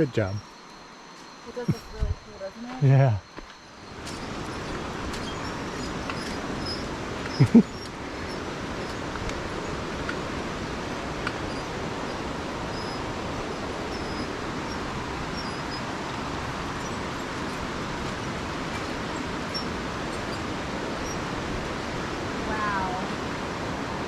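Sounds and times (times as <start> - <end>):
steady rushing noise: 3.7 - 24.0.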